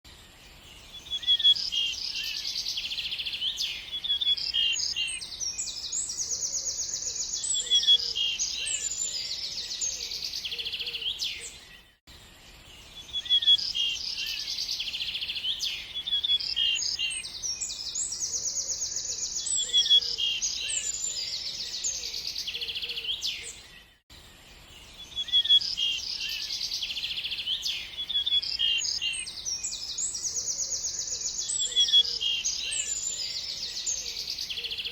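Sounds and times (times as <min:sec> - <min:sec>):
birds chirping and trilling: 0:00.1 - 0:34.9.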